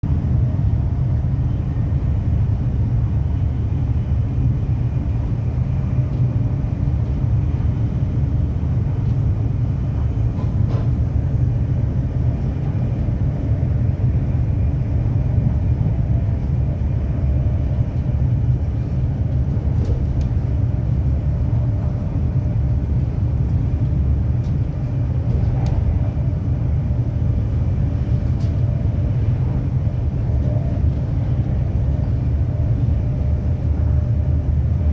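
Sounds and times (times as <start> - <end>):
vehicle rumble: 0.0 - 34.9.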